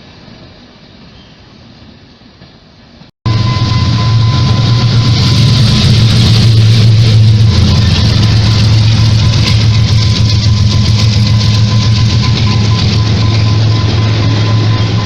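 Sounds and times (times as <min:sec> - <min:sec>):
diesel locomotive engine humming: 0:00.0 - 0:15.0.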